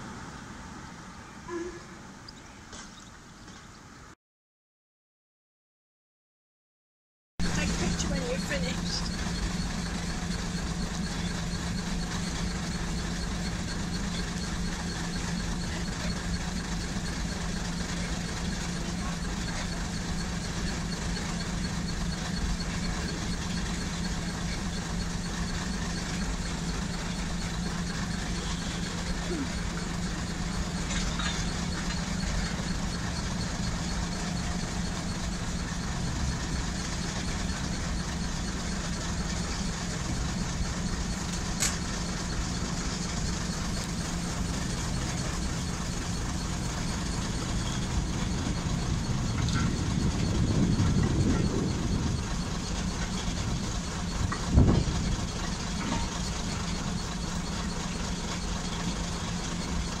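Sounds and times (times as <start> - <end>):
diesel engine idling: 7.4 - 60.0.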